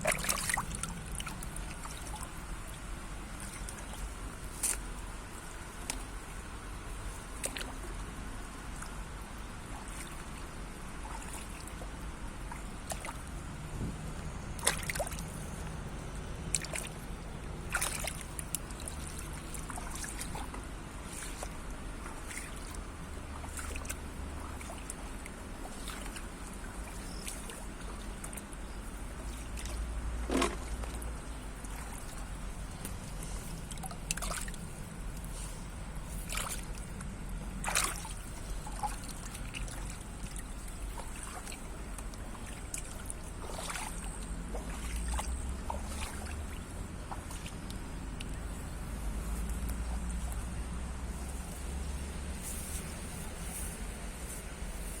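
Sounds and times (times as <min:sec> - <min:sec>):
short splashes and drips: 0:00.0 - 0:54.4
shallow water trickling and sloshing: 0:00.0 - 0:55.0.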